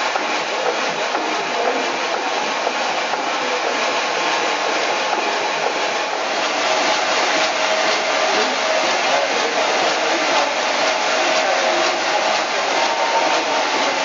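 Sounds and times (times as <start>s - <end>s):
steam engine mechanical clatter: 0.0s - 14.0s
steam hiss: 0.0s - 14.0s.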